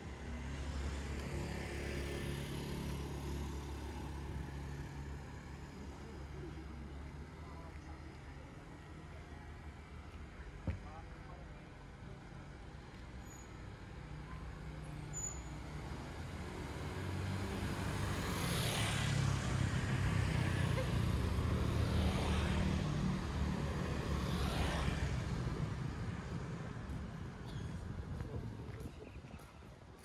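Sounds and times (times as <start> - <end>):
vehicles passing close by: 0.0 - 30.0.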